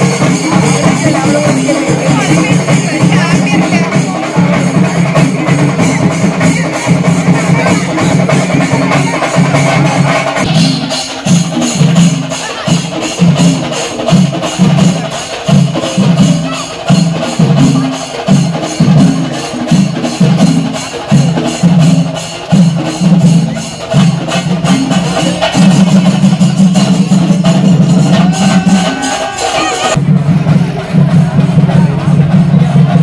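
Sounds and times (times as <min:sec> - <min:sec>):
cymbals clashing: 0:00.0 - 0:33.0
drums beating: 0:00.0 - 0:33.0.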